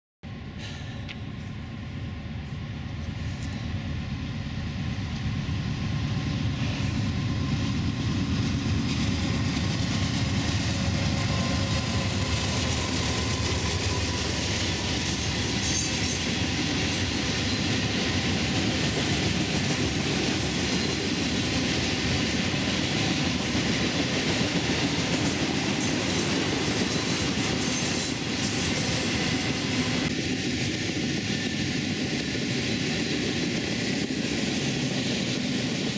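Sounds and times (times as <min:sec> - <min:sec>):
freight train passing: 0:00.2 - 0:35.9
train wheels rolling over rails: 0:00.6 - 0:35.9.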